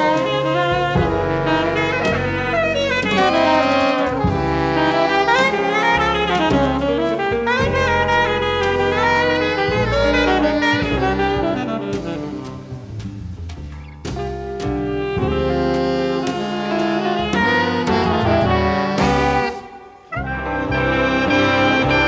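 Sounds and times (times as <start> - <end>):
band playing jazz music: 0.0 - 22.0.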